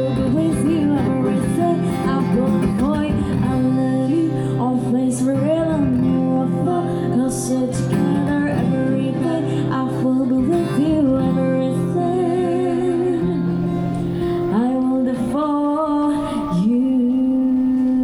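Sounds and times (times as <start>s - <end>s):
acoustic guitar: 0.0s - 18.0s
person singing slow song: 0.0s - 18.0s.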